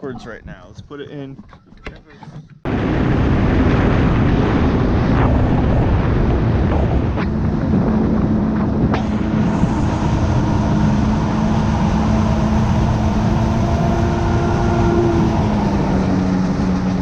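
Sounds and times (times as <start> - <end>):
dense rushing noise: 2.7 - 17.0
jet ski engine running: 2.7 - 17.0.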